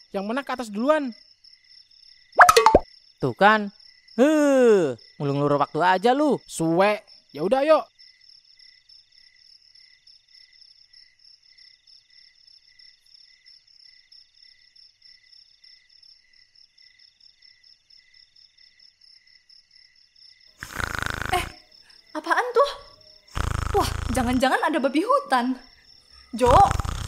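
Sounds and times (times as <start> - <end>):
continuous insect trill: 0.0 - 27.0
slow cricket chirp: 0.0 - 27.0.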